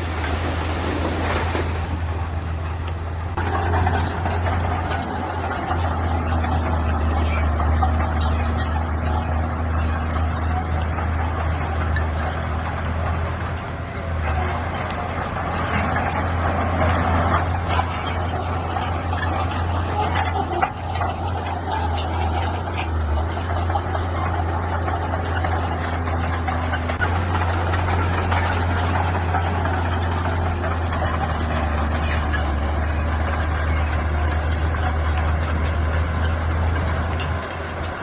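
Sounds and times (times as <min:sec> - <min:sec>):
clinks and rattles: 0:00.0 - 0:38.0
heavy diesel engine running: 0:00.0 - 0:38.0.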